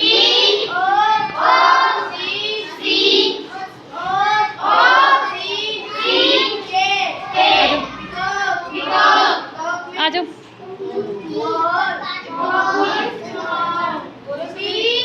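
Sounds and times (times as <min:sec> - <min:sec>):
children singing: 0:00.0 - 0:09.6, 0:10.7 - 0:14.1.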